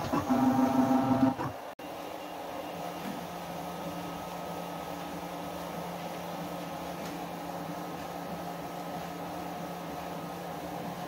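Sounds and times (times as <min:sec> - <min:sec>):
machine hum with hiss: 0:00.0 - 0:11.0.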